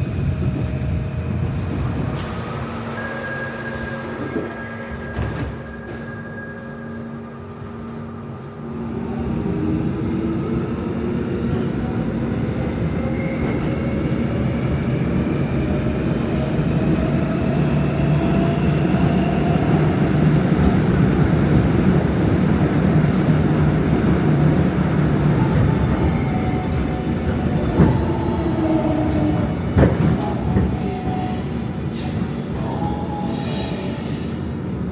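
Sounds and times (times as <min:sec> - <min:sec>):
train running rumble: 0:00.0 - 0:06.1, 0:07.4 - 0:34.6.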